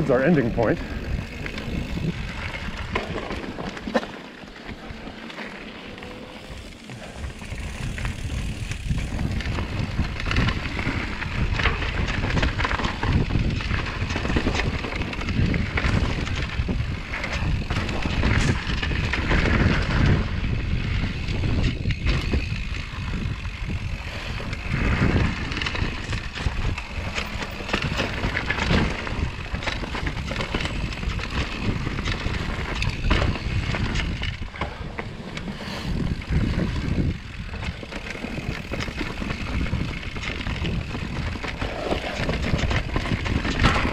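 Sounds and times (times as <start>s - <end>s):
wind on microphone: 0.0s - 3.7s, 6.4s - 43.9s
bike knocking and rattling: 0.0s - 43.9s
bike tyre rumbling on dirt trail: 0.0s - 43.9s.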